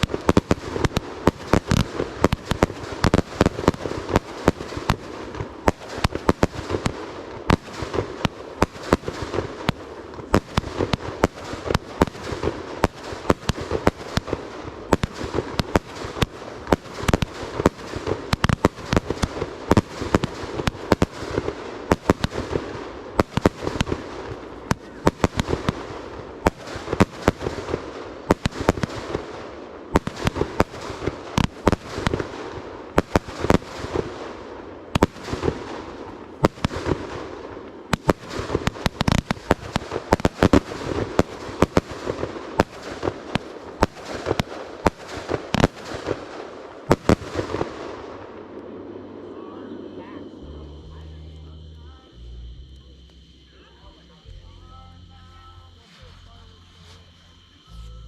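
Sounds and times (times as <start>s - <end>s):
fireworks bangs: 0.0s - 52.0s
fireworks crackle: 0.0s - 58.0s.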